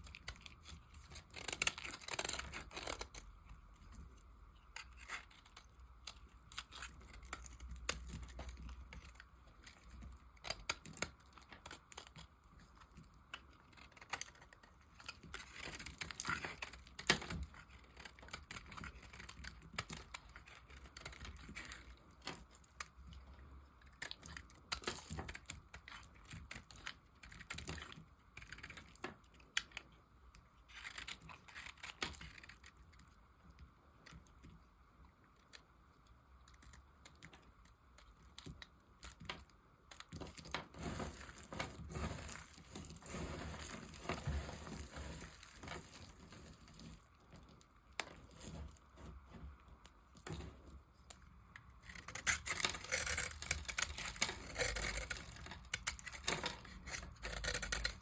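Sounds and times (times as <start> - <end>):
knife carving dry soap: 0.0 - 58.0.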